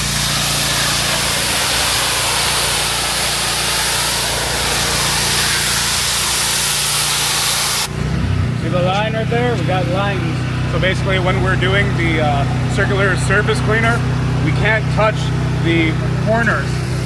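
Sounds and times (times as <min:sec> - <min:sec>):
water spraying on hard surface: 0:00.0 - 0:08.0, 0:09.7 - 0:17.0
pressure washer engine running: 0:00.0 - 0:17.0.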